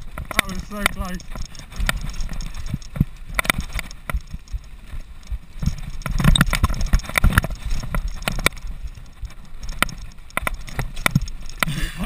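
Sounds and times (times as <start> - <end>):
bike chain and frame clicking: 0.0 - 12.0
low rumble of tyres: 0.0 - 12.0.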